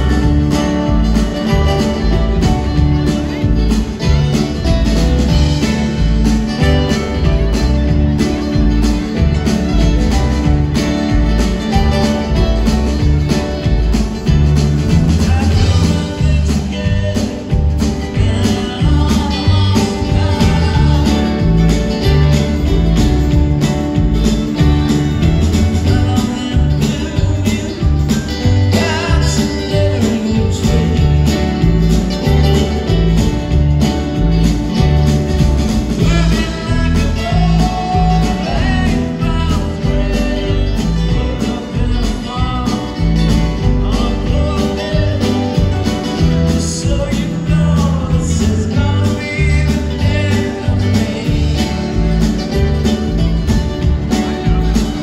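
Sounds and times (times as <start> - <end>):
live bluegrass string band: 0.0 - 55.0.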